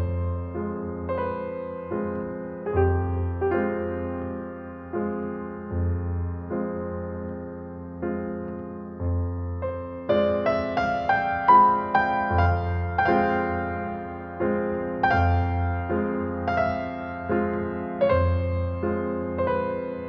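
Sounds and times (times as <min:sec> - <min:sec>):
slow gentle piano music: 0:00.0 - 0:20.0.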